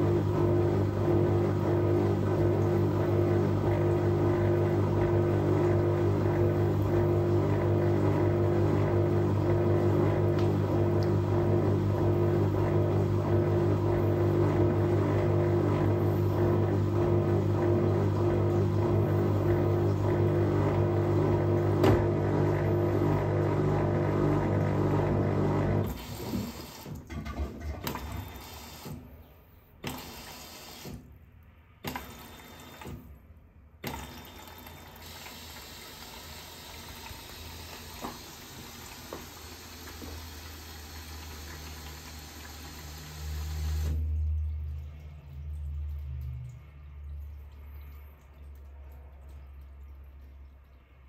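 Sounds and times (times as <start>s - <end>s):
water running: 0.0s - 26.9s, 33.8s - 51.0s
washing machine hum: 0.0s - 51.0s.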